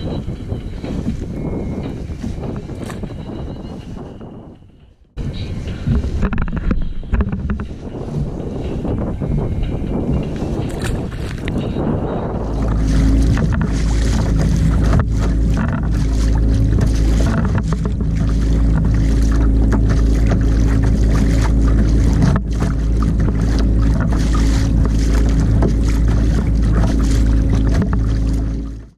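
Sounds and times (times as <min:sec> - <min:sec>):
water splashing along kayak hull: 0:00.0 - 0:28.9
wind rumble on microphone: 0:00.0 - 0:28.9.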